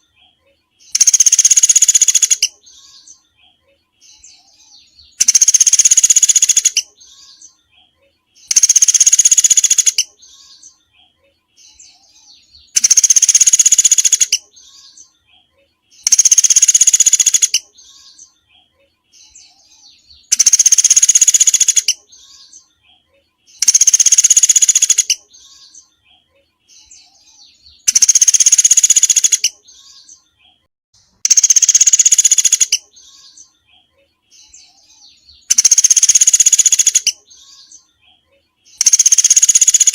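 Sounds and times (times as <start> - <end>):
faint soft bird chirps: 0.0 - 39.9.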